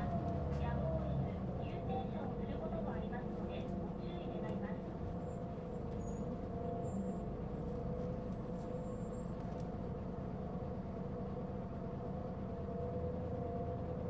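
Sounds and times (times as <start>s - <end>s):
bus interior rumble: 0.0s - 14.0s.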